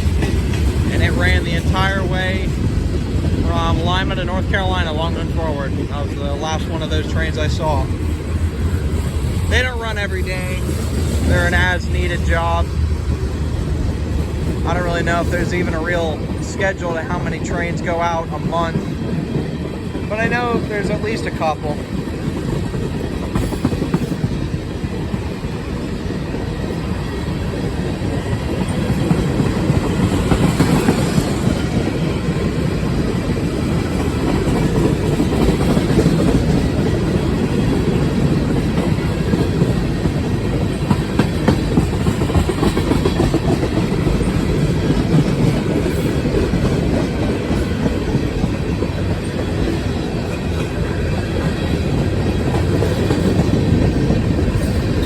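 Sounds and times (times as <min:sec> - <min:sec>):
train wheels rumbling on rail: 0:00.0 - 0:55.0
wheels clacking over rail joints: 0:00.0 - 0:55.0.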